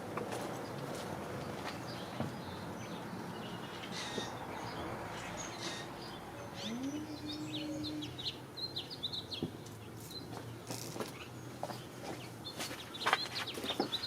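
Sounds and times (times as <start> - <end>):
small birds chirping: 1.4 - 14.0.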